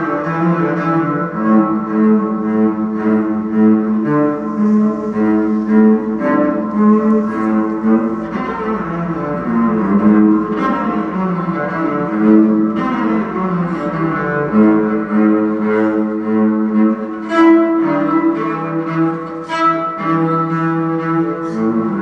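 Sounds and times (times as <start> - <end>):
bowed cello notes: 0.0 - 22.0.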